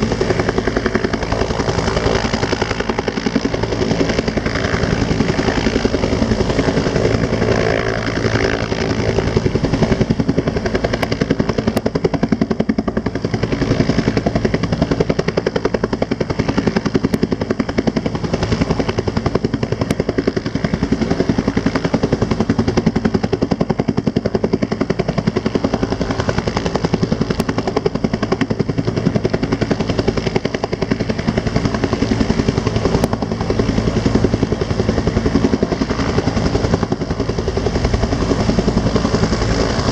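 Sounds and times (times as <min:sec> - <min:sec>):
helicopter rotor chopping: 0:00.0 - 0:39.9.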